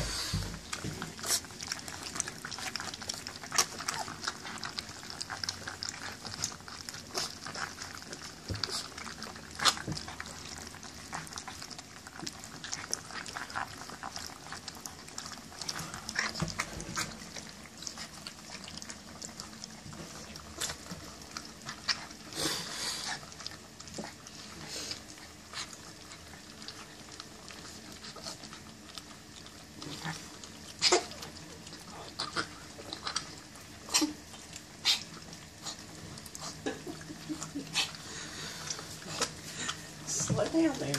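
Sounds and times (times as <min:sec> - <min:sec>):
puppies crunching kibble: 0:00.0 - 0:40.9.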